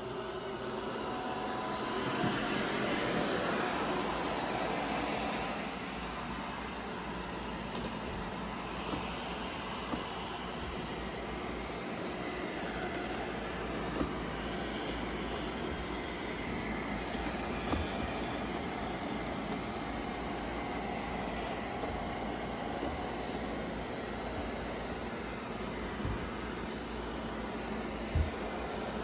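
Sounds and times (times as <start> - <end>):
robot vacuum whirring: 0.0 - 29.0.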